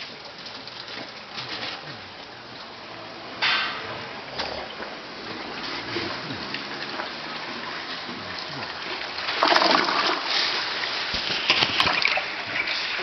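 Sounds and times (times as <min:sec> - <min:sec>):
rushing water: 0:00.0 - 0:13.0
water splashing: 0:00.0 - 0:13.0.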